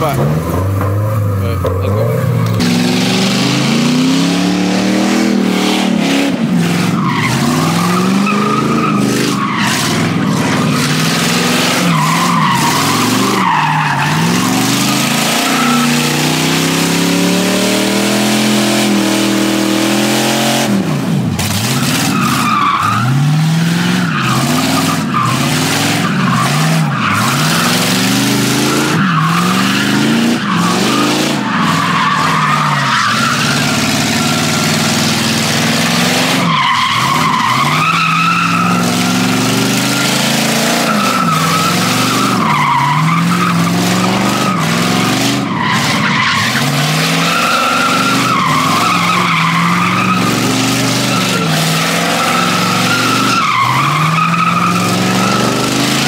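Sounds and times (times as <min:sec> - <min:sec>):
car engine revving: 0:00.0 - 0:56.0
tyres squealing on asphalt: 0:00.0 - 0:56.0.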